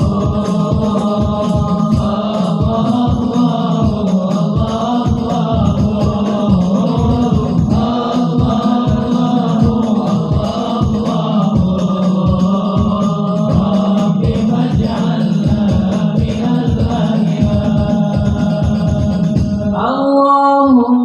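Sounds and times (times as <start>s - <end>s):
low rhythmic beat: 0.0s - 19.8s
voices chanting in unison: 0.0s - 21.0s.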